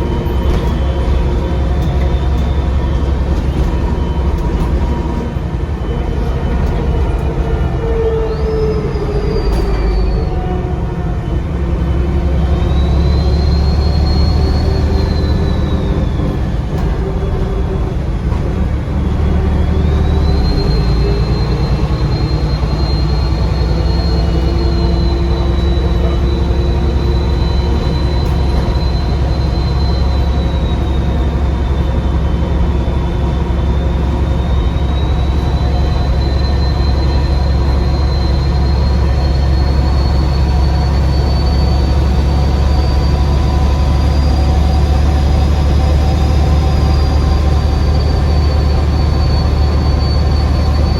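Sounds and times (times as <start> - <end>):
high turbo whistle: 0.0 - 17.0, 19.2 - 50.9
bus diesel engine drone: 0.0 - 50.9.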